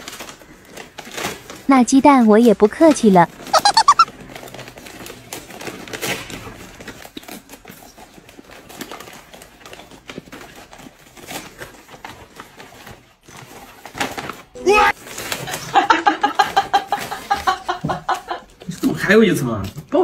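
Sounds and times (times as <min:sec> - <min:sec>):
gift wrapping rustling: 0:00.0 - 0:19.2.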